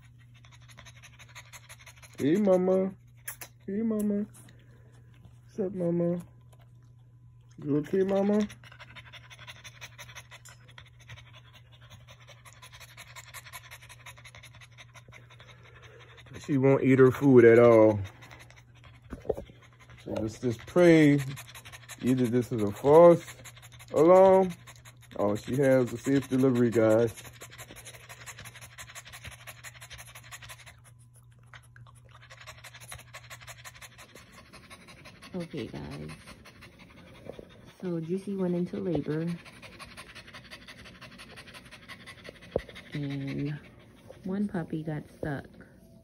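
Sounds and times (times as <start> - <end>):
dog panting: 0.0 - 46.0.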